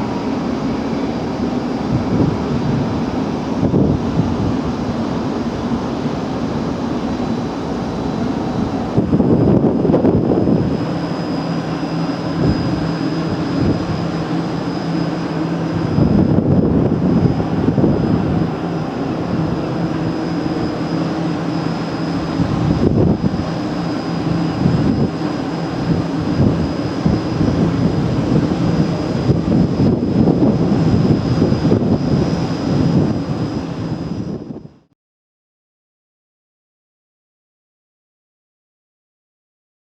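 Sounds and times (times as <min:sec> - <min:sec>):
thin high whine: 0:00.0 - 0:34.7
ship machinery rumbling drone: 0:00.0 - 0:34.8.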